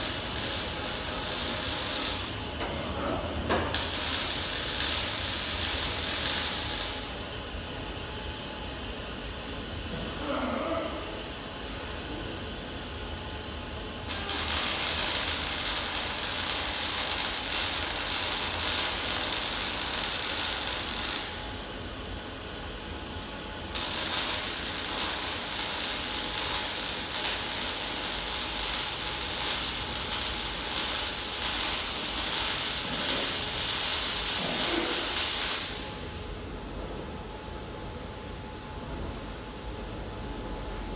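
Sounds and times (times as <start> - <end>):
loud steady hissing: 0.0 - 36.9.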